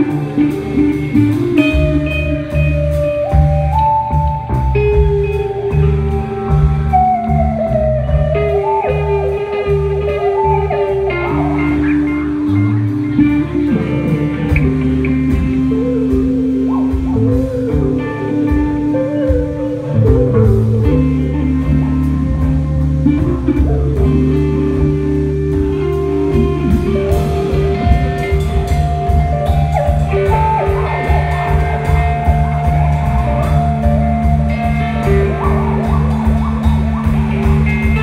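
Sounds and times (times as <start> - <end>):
drum kit beat: 0.0 - 38.0
electric bass: 0.0 - 38.0
electric guitar bending notes: 0.0 - 38.0.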